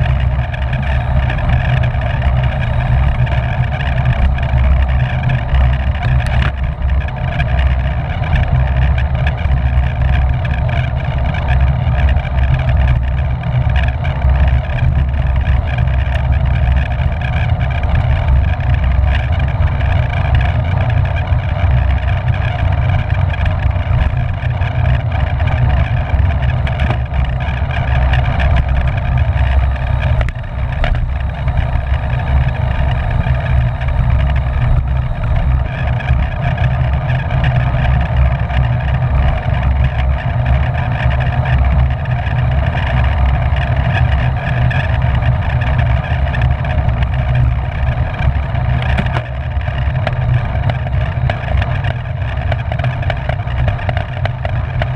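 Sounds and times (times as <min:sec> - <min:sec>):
constant hum: 0:00.0 - 0:54.9
wind rushing over microphone: 0:00.0 - 0:54.9.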